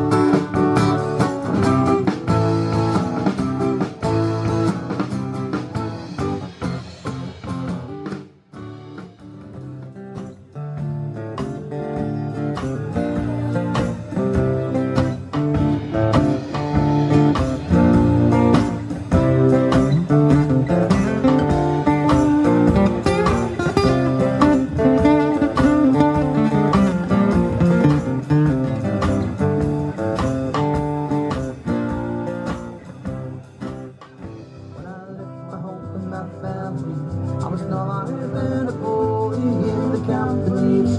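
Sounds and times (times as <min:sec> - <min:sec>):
acoustic guitars strummed and picked: 0:00.0 - 0:40.9.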